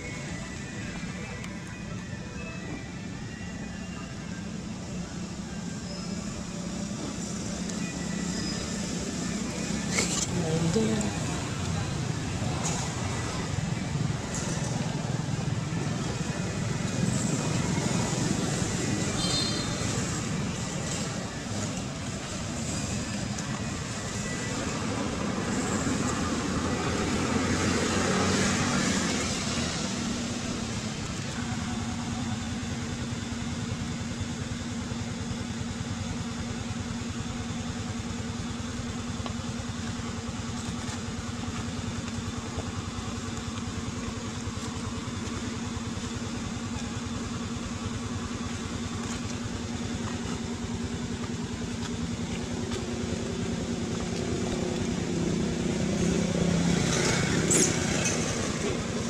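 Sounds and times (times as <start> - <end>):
steady engine hum: 0.0 - 59.0.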